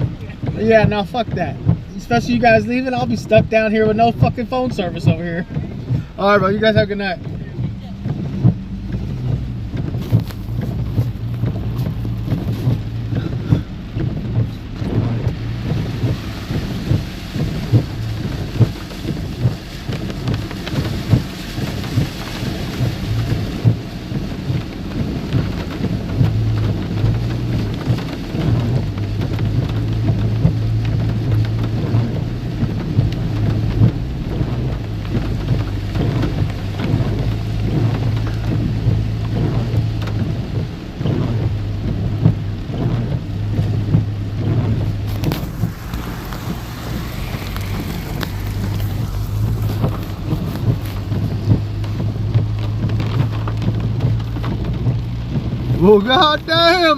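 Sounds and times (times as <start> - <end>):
heavy rain on a car: 0.0 - 56.9.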